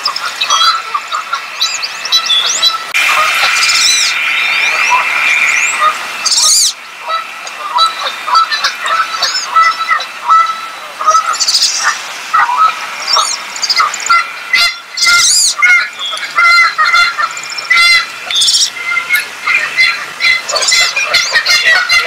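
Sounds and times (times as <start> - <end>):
ducks squealing and whistling: 0.0 - 22.0.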